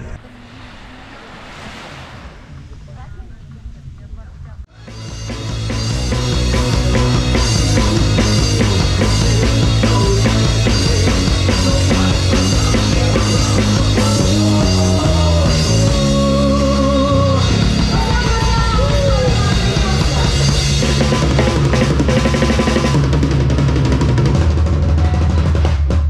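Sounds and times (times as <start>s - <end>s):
bass line: 2.4s - 26.0s
rock drum kit: 4.7s - 26.0s.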